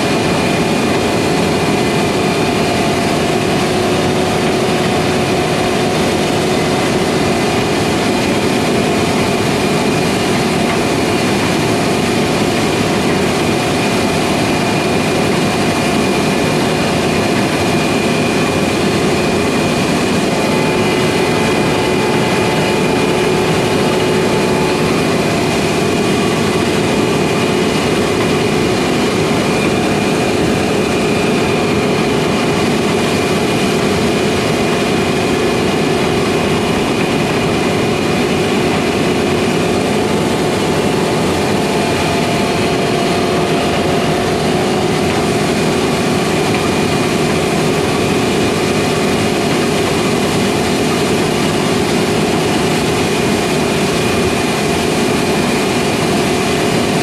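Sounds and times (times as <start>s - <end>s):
high whine: 0.0s - 57.0s
machine hum: 0.0s - 57.0s.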